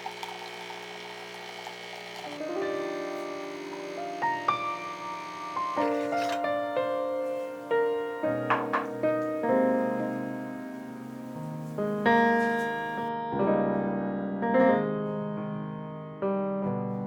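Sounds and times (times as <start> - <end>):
gentle piano chords: 2.4 - 17.0.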